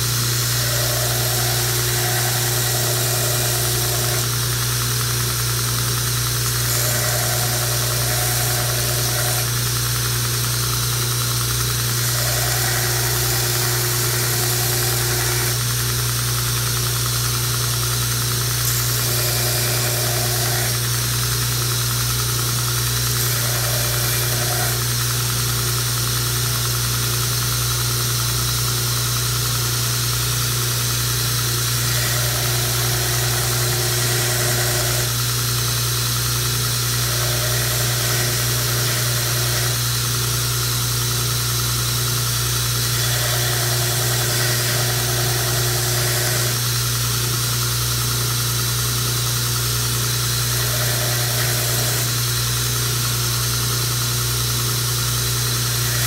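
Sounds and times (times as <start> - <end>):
belt grinder motor hum: 0.0 - 56.0.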